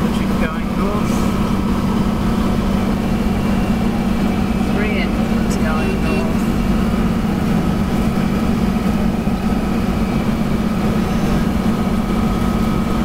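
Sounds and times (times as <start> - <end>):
engine and road drone in car: 0.0 - 13.0
thin steady whine: 0.0 - 13.0.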